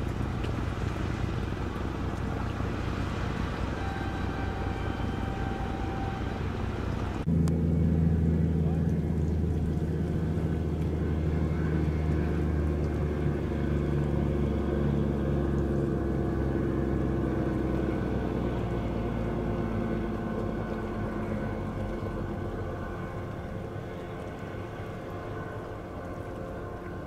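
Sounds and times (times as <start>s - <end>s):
ferry engines droning: 0.0s - 27.0s.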